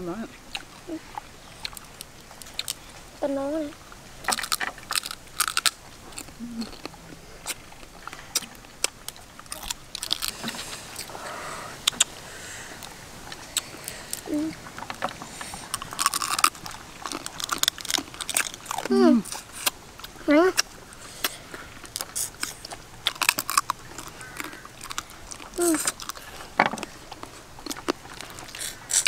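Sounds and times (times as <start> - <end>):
chewing: 0.5 - 29.0
crab shells cracking: 1.5 - 2.8, 4.2 - 11.1, 12.8 - 19.8, 20.6 - 29.0.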